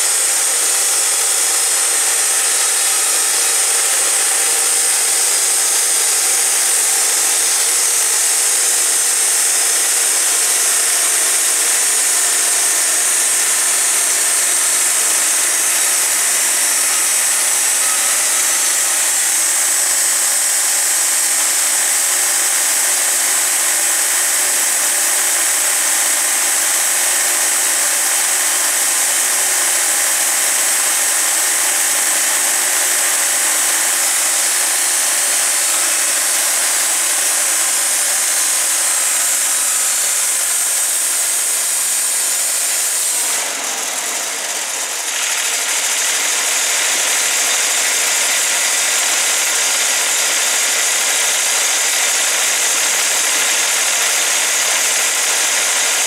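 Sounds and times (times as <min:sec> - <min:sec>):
band blade sawing log: 0:00.0 - 0:56.0
sawmill engine running: 0:00.0 - 0:56.0.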